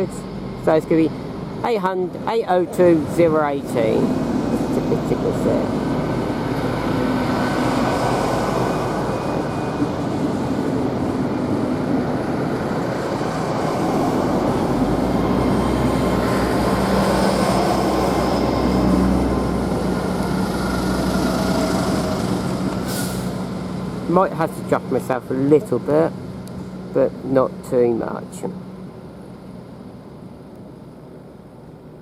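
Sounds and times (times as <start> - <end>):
diesel engine rumble: 0.0 - 32.0
moving train noise: 0.0 - 32.0.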